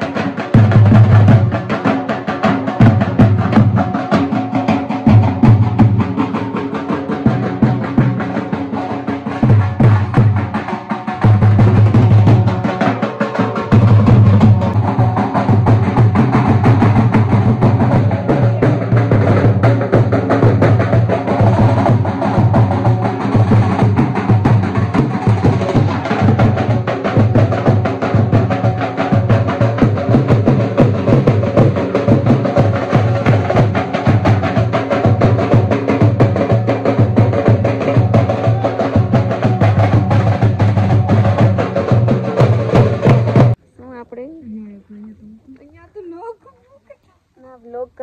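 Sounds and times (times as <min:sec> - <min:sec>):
heavy low drum beat: 0:00.0 - 0:45.4
rhythmic drumming music: 0:00.0 - 0:46.5.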